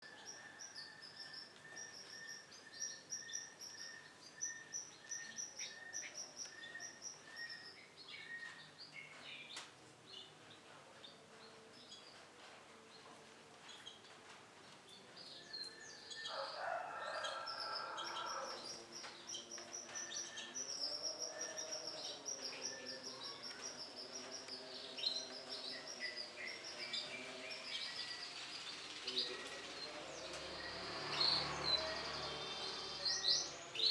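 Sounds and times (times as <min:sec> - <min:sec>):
canaries chirping: 0:00.0 - 0:33.9.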